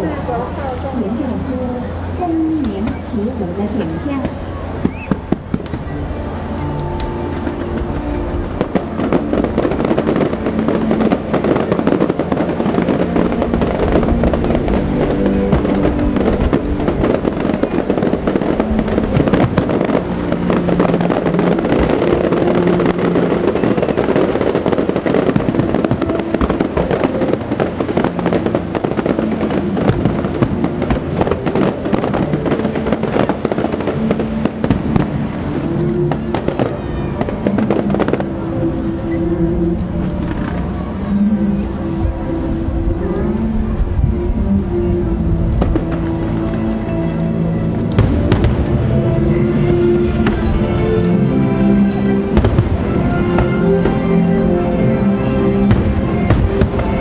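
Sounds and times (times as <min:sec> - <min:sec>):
fireworks bursting and crackling: 0:00.0 - 0:57.0
show music: 0:04.2 - 0:57.0.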